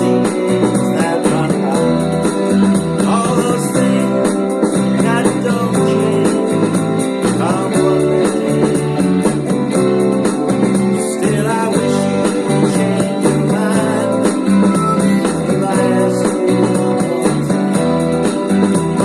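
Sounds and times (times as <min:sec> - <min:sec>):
guitar music: 0:00.0 - 0:19.0.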